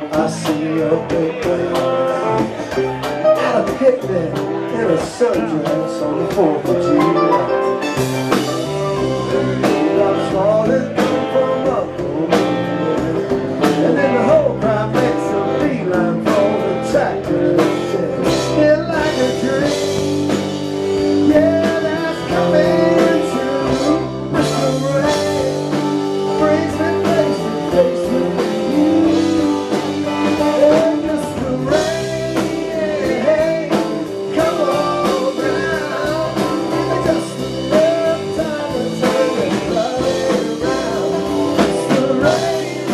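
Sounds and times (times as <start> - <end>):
drums: 0.0 - 42.9
person singing: 0.0 - 42.9
upright bass: 0.0 - 42.9.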